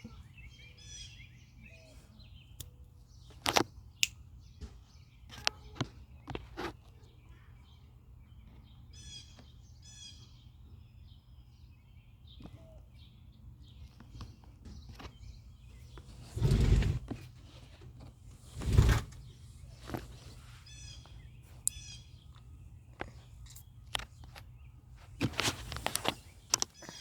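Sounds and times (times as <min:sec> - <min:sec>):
birds chirping and singing: 0:00.0 - 0:17.3, 0:18.4 - 0:27.0.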